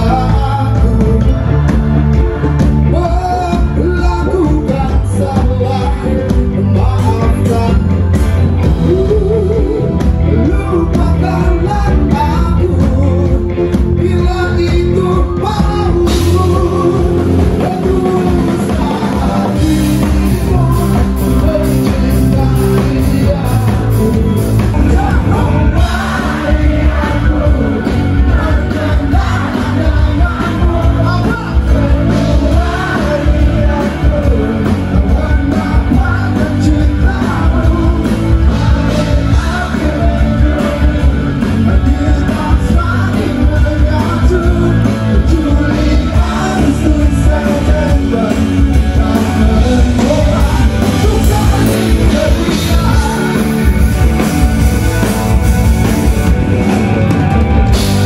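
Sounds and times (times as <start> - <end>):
live rock band: 0.0 - 58.0
man singing lead vocals: 0.0 - 58.0.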